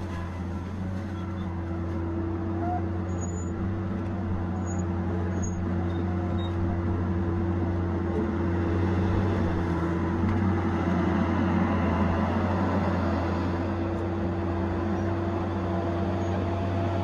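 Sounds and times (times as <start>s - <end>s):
diesel engine humming: 0.0s - 17.0s.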